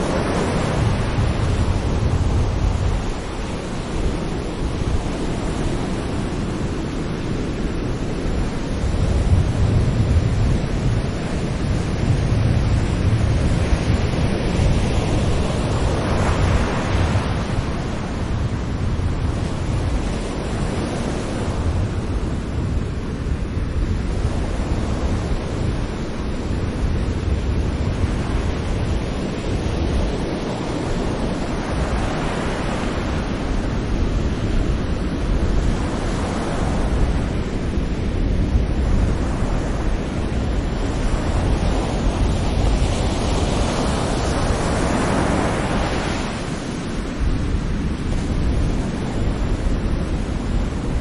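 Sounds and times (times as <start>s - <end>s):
low rumble of surf: 0.0s - 51.0s.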